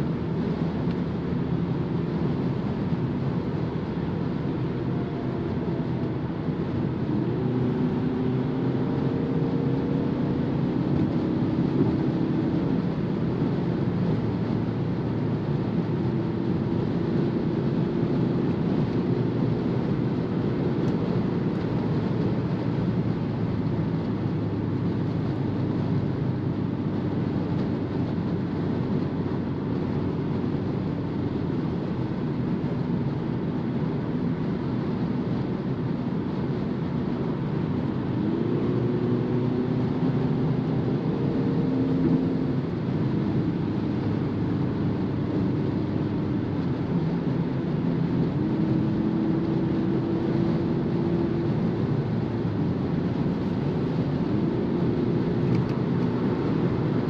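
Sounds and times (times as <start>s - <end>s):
tyre and wind noise in car: 0.0s - 57.0s.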